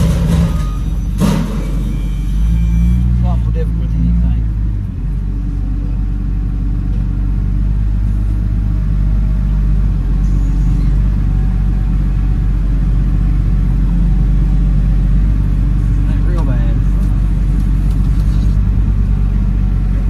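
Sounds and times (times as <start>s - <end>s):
wheel loader diesel engine drone: 0.0s - 20.0s.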